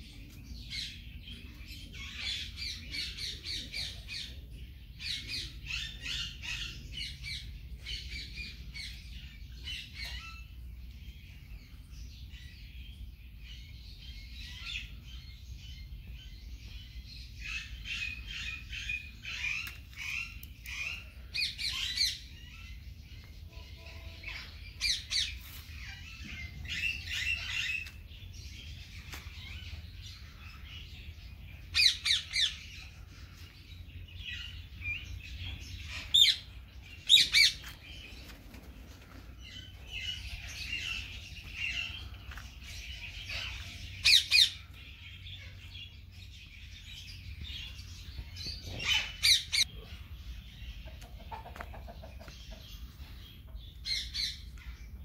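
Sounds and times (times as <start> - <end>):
birds chirping and chattering: 0.0 - 55.0.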